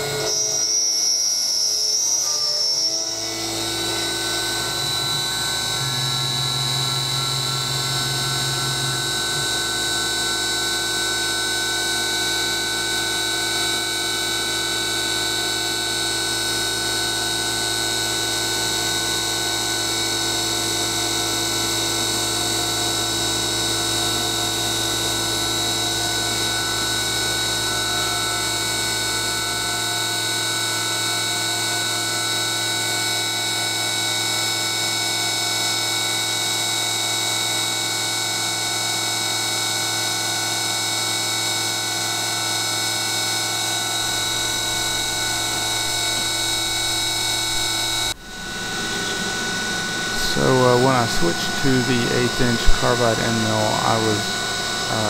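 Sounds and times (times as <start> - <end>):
metal cutting noise: 0.0 - 34.3, 42.4 - 55.0
milling spindle whine: 0.0 - 55.0.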